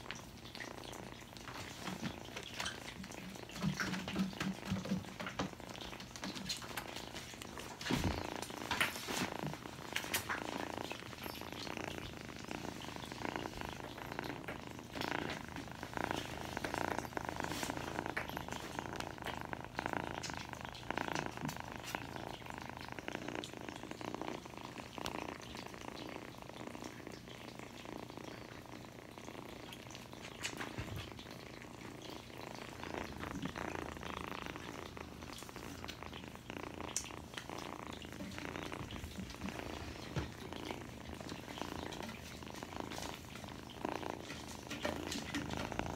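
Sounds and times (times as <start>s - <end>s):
kittens purring: 0.0s - 45.9s.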